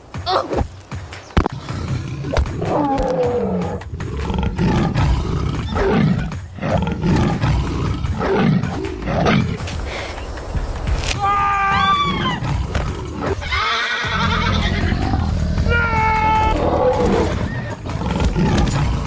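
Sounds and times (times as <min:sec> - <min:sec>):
large animal roaring and growling: 0:01.5 - 0:09.6, 0:11.3 - 0:19.0.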